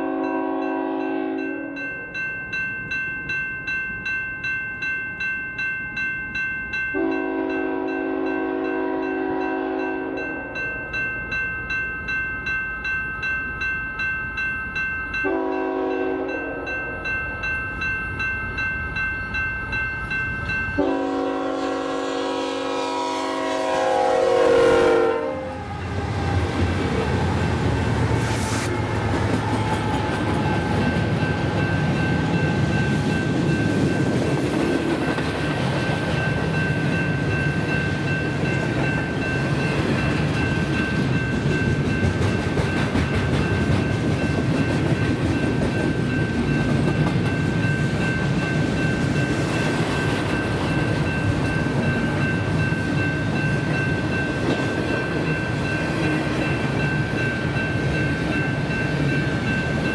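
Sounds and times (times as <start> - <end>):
crossing bell ringing: 0.0 - 59.9
diesel locomotive passing: 0.0 - 59.9
freight train wheels rumbling: 5.9 - 59.9.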